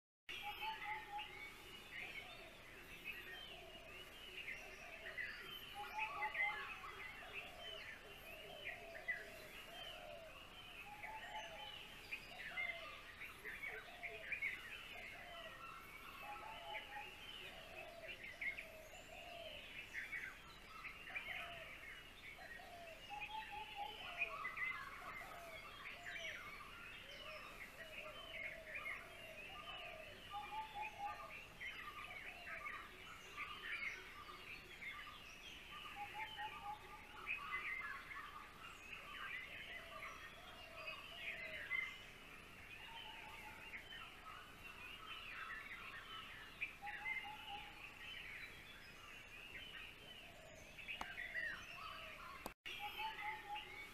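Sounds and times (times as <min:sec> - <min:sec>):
birds chirping chorus: 0:00.3 - 0:53.9
lower repeated bird calls: 0:00.3 - 0:53.9.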